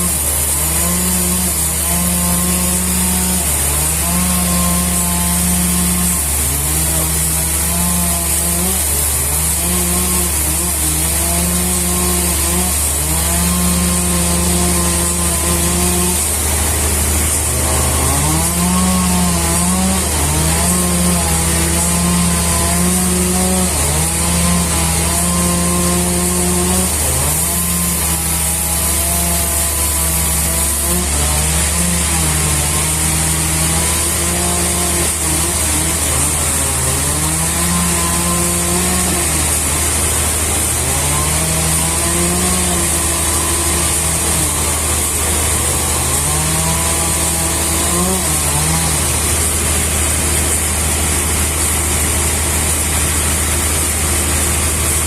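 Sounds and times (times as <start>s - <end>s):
engine-powered saw cutting wood: 0.0s - 55.0s.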